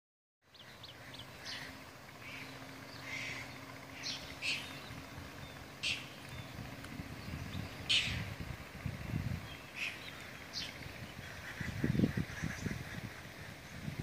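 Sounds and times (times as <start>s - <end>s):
birds chirping: 0.4s - 14.0s.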